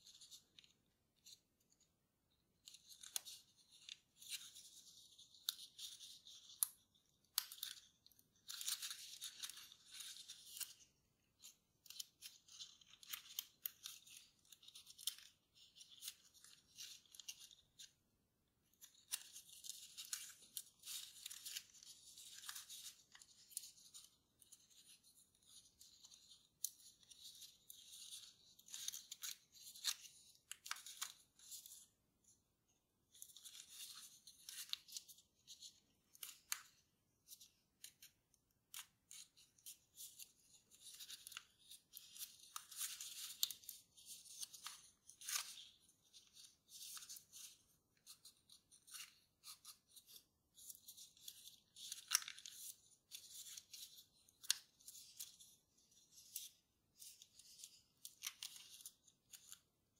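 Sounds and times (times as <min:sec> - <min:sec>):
paper rustling and crinkling: 0:02.6 - 0:18.1, 0:18.7 - 0:32.0, 0:33.1 - 0:59.8.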